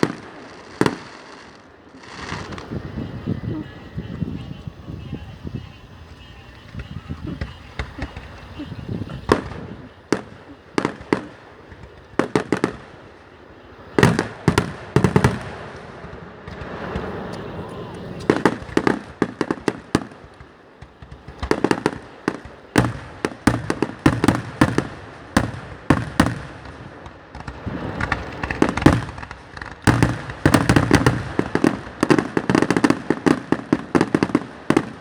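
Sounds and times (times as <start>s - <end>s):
fireworks booming: 0.0s - 35.0s
fireworks crackling: 0.0s - 35.0s.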